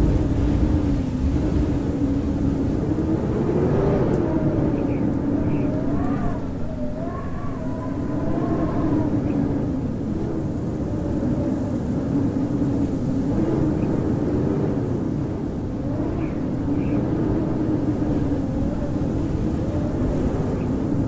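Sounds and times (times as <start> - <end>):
howling blizzard wind: 0.0 - 21.0.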